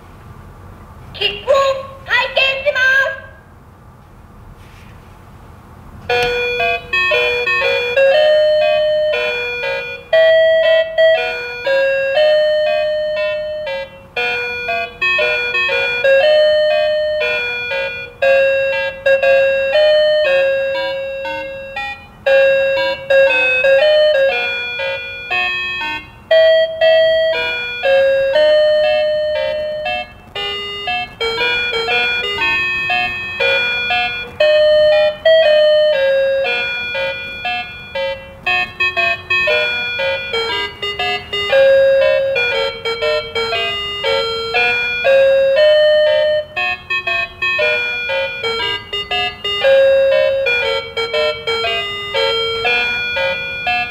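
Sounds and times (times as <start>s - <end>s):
toy beeping electronic melody: 6.1s - 53.9s.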